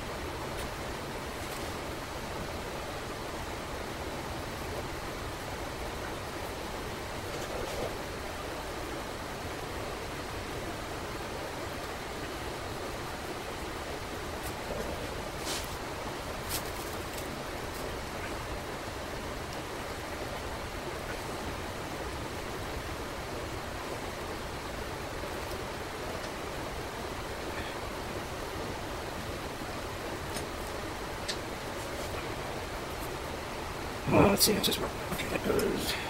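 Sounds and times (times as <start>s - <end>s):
steady rushing hiss: 0.0s - 36.0s.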